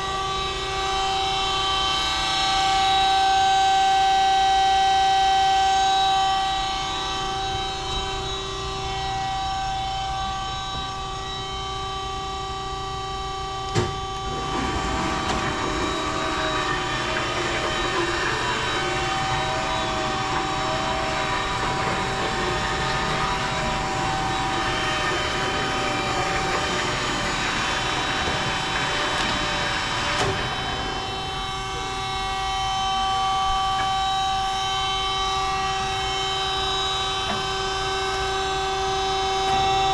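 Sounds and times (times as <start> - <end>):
band saw whining: 0.0 - 39.9.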